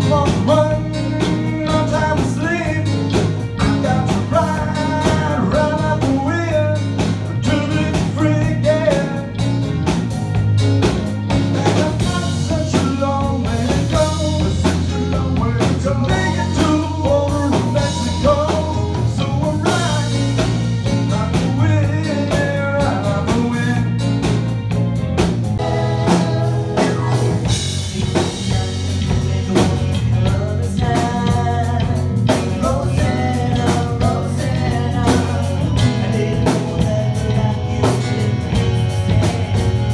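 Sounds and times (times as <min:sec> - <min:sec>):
person singing: 0:00.0 - 0:09.8, 0:11.4 - 0:24.5, 0:25.6 - 0:39.9
live band playing soft rock: 0:00.0 - 0:39.9.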